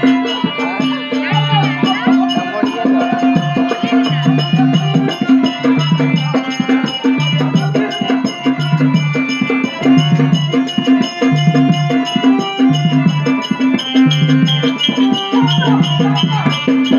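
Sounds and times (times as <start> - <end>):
drums beating fast rhythm: 0.0 - 16.9
steady held tones: 0.0 - 16.9.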